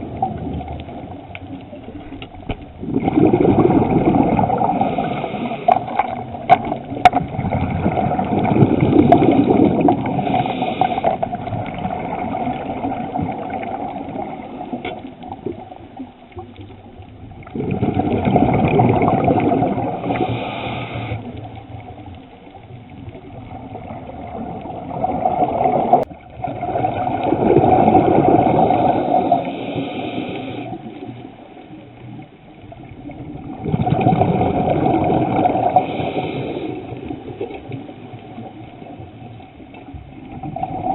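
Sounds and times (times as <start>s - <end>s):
diver exhaling bubbles underwater: 0.0s - 15.8s, 17.2s - 22.1s, 23.1s - 31.2s, 33.0s - 39.0s, 40.1s - 40.9s.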